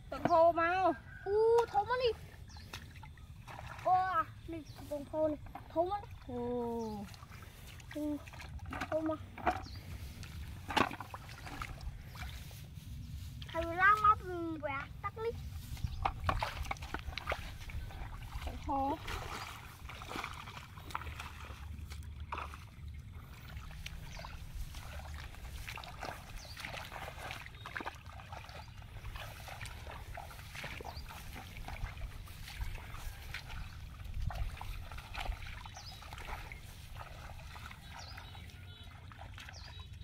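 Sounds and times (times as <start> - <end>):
footsteps wading through water: 0.0 - 40.0.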